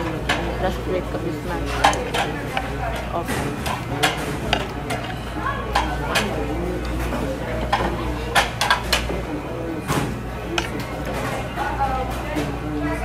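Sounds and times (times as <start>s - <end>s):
murmur of restaurant chatter: 0.0s - 13.0s.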